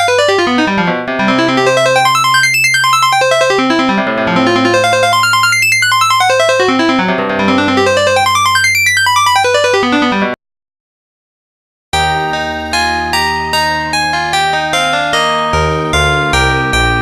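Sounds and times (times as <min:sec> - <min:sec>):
electric piano ringtone melody: 0:00.0 - 0:10.4, 0:12.0 - 0:17.0.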